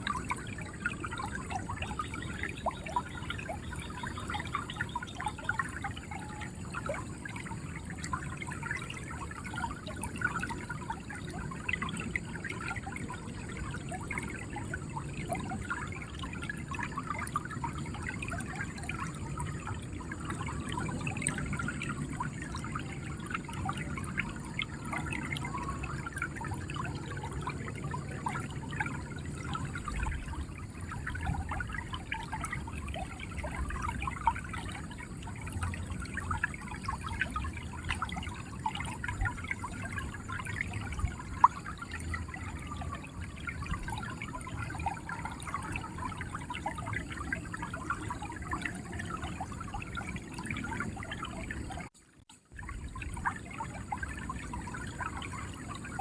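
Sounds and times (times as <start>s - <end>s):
river water gurgling: 0.0s - 56.0s.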